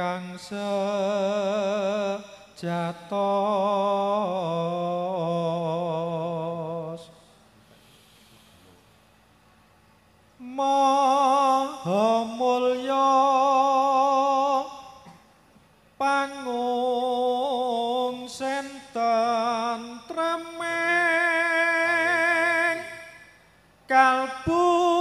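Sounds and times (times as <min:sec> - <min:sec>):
man chanting unaccompanied: 0:00.0 - 0:07.2, 0:10.4 - 0:15.1, 0:16.0 - 0:25.0.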